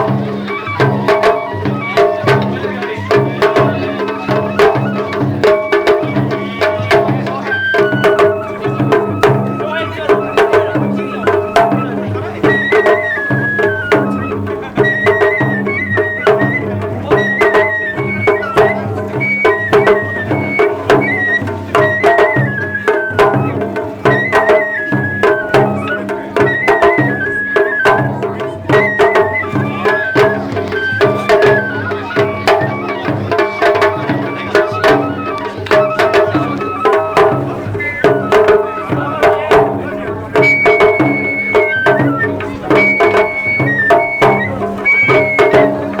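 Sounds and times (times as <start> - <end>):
bamboo flute melody: 0.0 - 46.0
quick drum strokes: 0.0 - 46.0.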